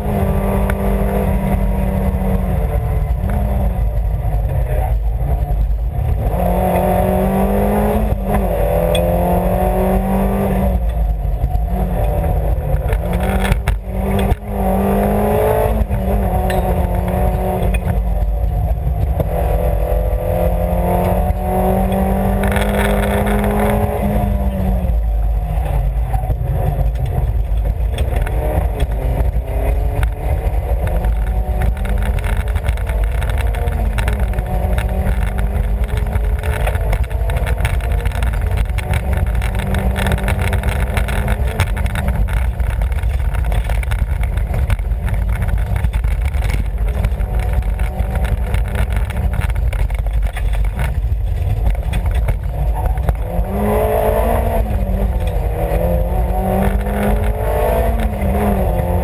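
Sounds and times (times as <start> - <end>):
rally car engine revving: 0.0 - 59.0
road and wind rumble: 0.0 - 59.0.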